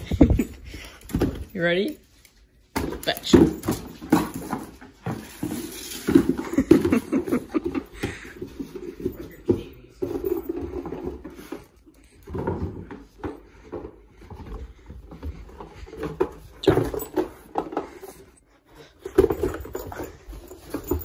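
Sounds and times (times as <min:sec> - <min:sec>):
dog paws on floor: 0:00.0 - 0:21.0.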